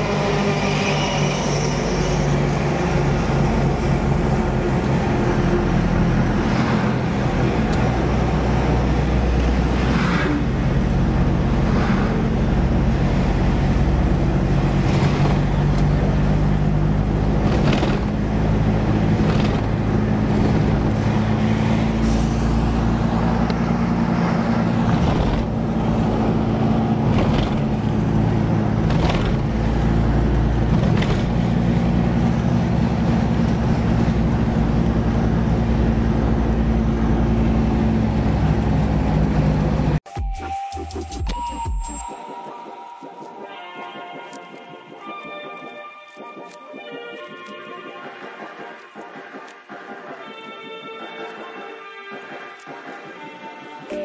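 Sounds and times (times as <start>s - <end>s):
tyres rattling over rumble strips: 0.0s - 40.0s, 43.0s - 54.0s
tyre and road noise: 0.0s - 40.1s, 41.0s - 54.0s
vehicle engine hum: 0.0s - 40.1s, 42.6s - 54.0s.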